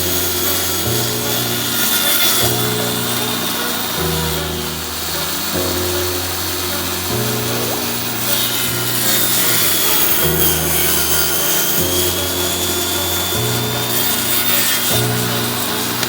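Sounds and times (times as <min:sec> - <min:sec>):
background music: 0:00.0 - 0:16.0
tool scraping wood: 0:00.0 - 0:16.0.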